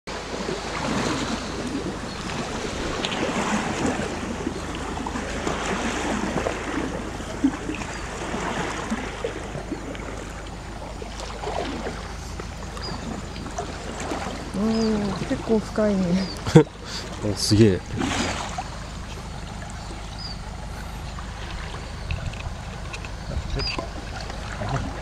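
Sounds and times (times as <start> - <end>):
water sloshing and swishing: 0.1 - 25.0.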